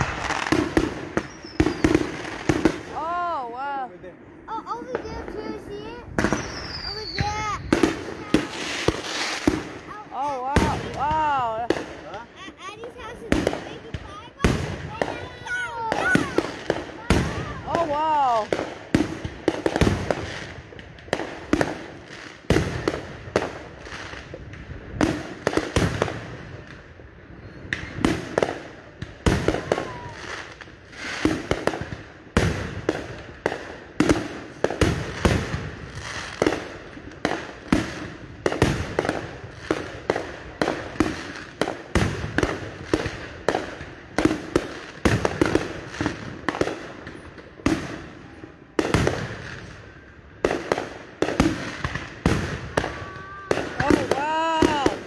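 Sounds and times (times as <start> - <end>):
distant fireworks bangs and pops: 0.0 - 3.0, 4.2 - 55.0.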